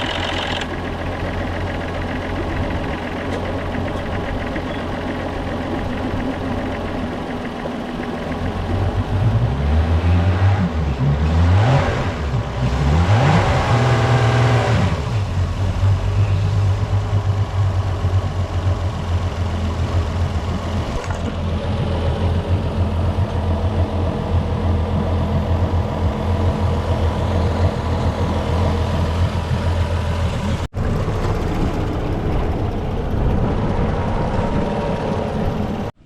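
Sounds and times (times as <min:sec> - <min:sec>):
outboard engine revving: 0:00.0 - 0:35.9.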